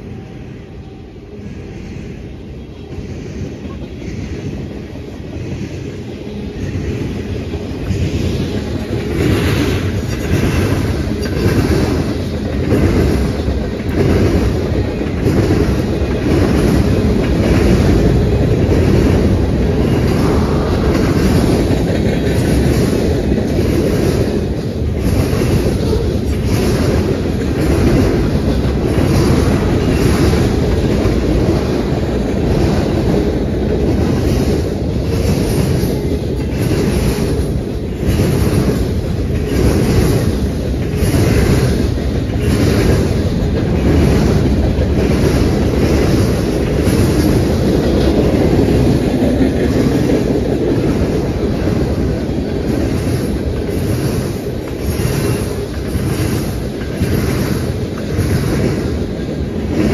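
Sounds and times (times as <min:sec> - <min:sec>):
freight train rumble: 0:00.0 - 0:59.9
train wheels clicking over rail joints: 0:02.7 - 0:59.9.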